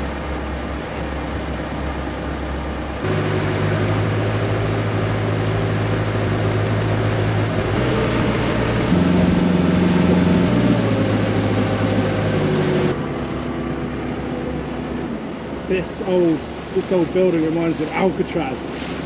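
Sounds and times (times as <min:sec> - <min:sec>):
motor boat engine humming: 0:00.0 - 0:15.8
wind: 0:00.0 - 0:19.0.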